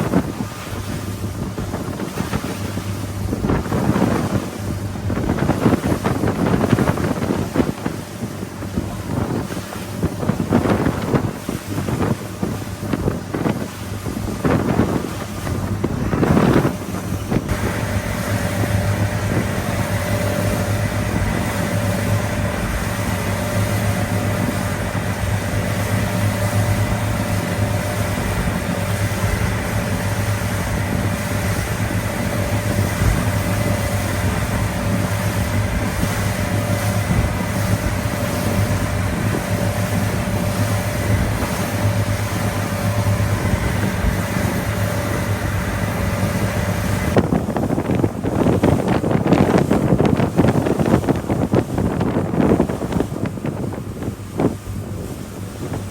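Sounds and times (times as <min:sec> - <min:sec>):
engine running steadily: 0:00.0 - 0:55.9
wind gusts on microphone: 0:00.0 - 0:55.9.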